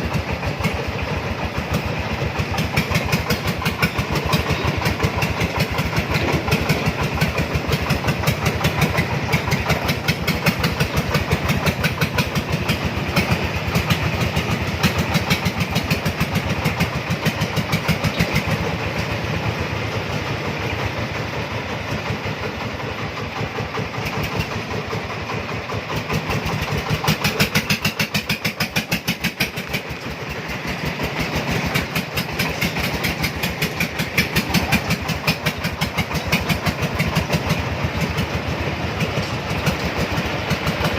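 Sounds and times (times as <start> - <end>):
three-wheeler engine running: 0.0 - 40.9.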